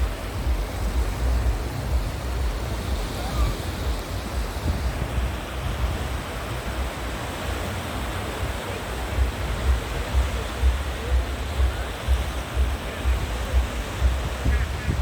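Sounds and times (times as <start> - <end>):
low rumbles of waves: 0.0 - 15.0
surf breaking on beach: 0.0 - 15.0.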